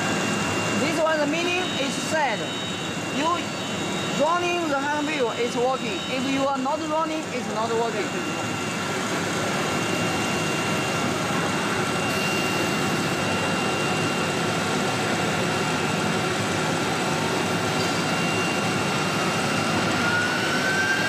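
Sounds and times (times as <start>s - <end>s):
cnc router running: 0.0s - 21.0s
high machine whine: 0.0s - 21.0s.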